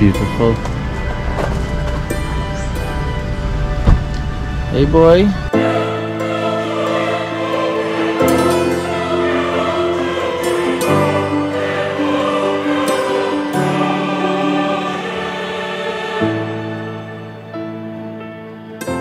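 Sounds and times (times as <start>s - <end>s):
slow choir-like chords: 0.0s - 19.0s.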